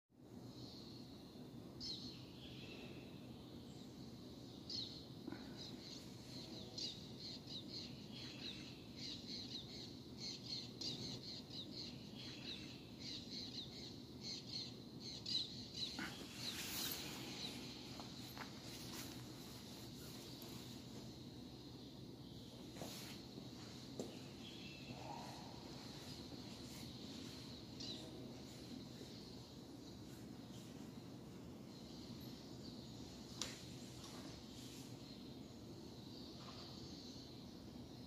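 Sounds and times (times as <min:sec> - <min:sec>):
small birds chirping: 0:01.8 - 0:38.0.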